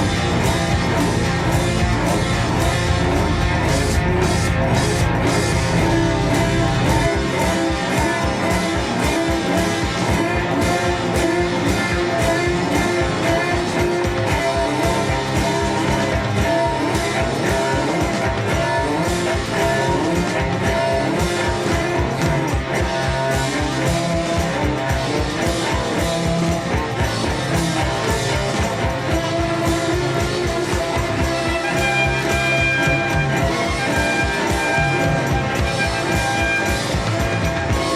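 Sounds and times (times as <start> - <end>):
rock music with electric guitar: 0.0 - 37.9.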